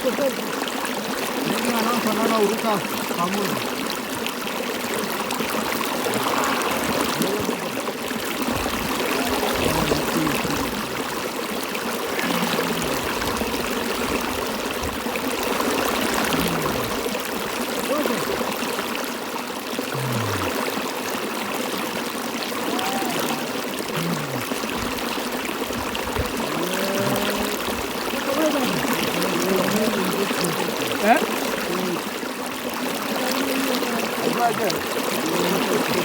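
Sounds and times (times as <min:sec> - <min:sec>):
stream water flowing: 0:00.0 - 0:36.0.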